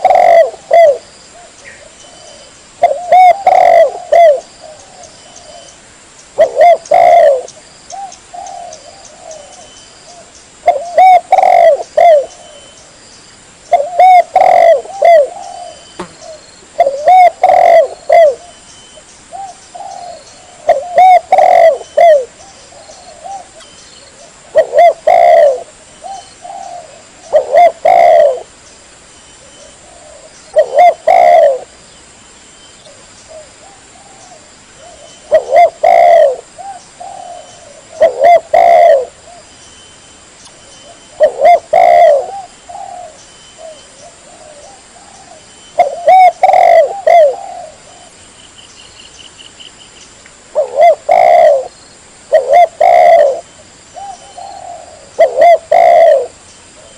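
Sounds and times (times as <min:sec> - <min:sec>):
dove cooing: 0:00.0 - 0:05.8, 0:06.4 - 0:12.8, 0:13.7 - 0:18.6, 0:19.3 - 0:28.5, 0:29.4 - 0:31.8, 0:32.9 - 0:39.5, 0:40.8 - 0:48.2, 0:50.5 - 0:51.7, 0:52.3 - 0:56.9.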